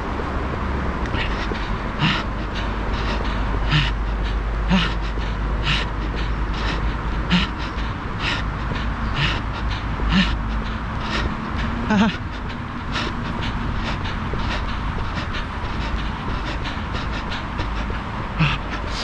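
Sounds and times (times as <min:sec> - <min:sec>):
runner breathing hard: 0:00.0 - 0:19.0
wind rumble on microphone: 0:00.0 - 0:19.0.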